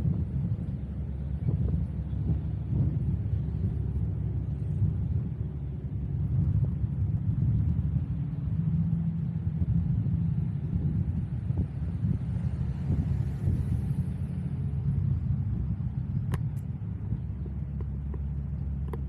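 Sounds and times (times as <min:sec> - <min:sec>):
road vehicle rumble: 0:00.0 - 0:19.0.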